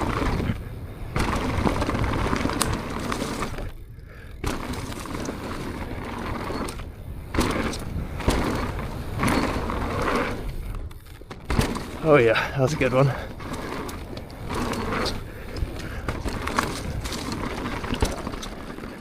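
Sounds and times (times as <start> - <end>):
bike rattling over bumps: 0.0 - 19.0
wind and tyre noise: 0.0 - 19.0.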